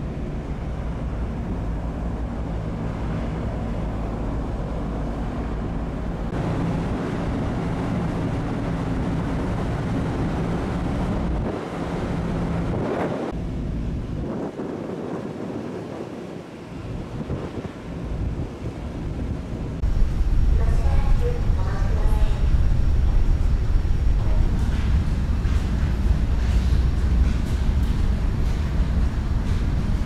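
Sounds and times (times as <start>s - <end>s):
ferry engines droning: 0.0s - 30.0s
wind over microphone: 0.0s - 30.0s.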